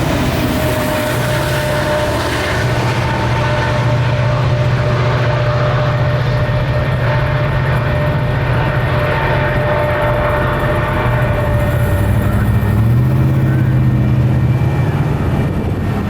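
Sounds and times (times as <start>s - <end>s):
crossing bell ringing: 0.0s - 16.0s
freight train rumbling past: 0.0s - 16.0s.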